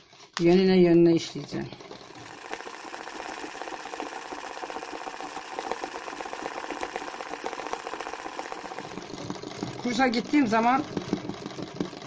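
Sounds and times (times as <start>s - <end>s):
sewing machine running: 0.6s - 12.0s.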